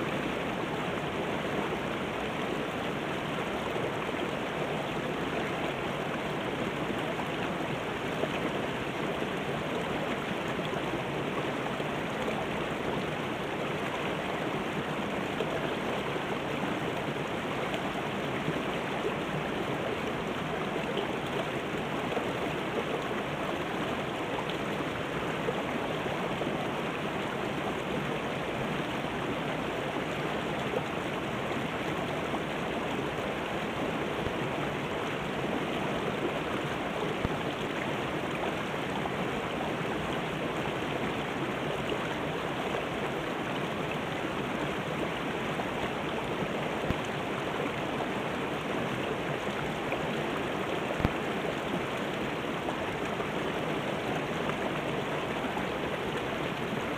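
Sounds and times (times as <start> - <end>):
river rushing over rocks: 0.0 - 56.9.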